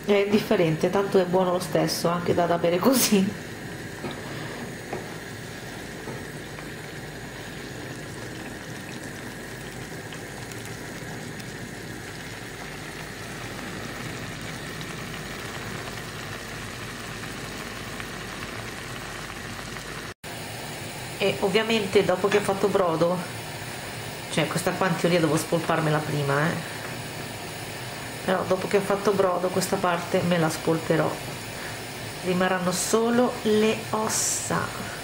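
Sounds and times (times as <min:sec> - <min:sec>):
broth bubbling in a pan: 0:00.0 - 0:35.0.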